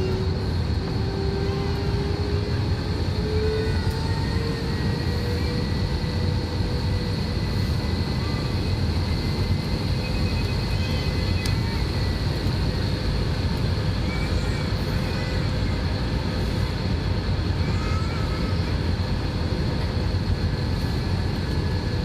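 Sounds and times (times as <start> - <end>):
jet airliner rumble and whine: 0.0 - 22.0.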